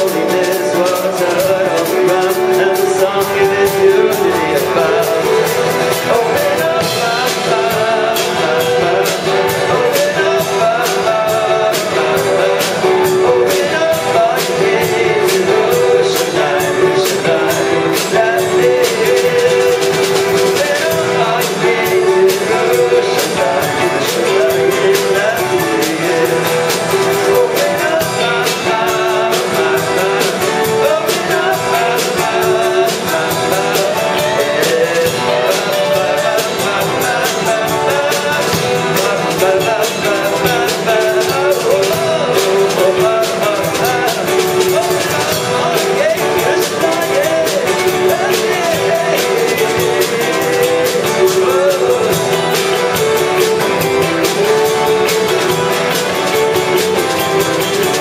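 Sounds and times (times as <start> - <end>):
live band music: 0.0 - 58.0.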